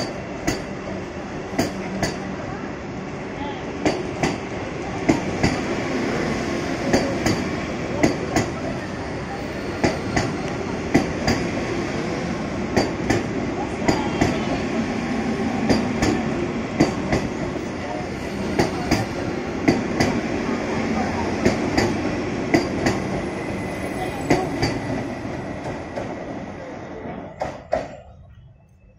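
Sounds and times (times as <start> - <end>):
train rumbling past: 0.0 - 28.9.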